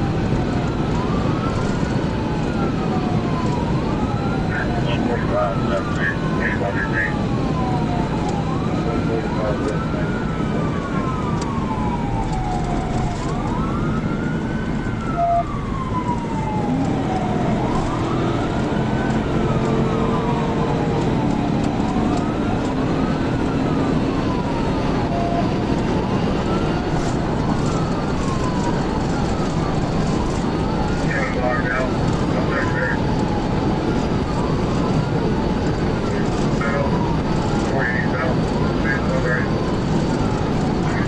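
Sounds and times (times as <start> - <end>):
car road and engine noise: 0.0 - 41.0
police siren wailing: 0.0 - 41.0.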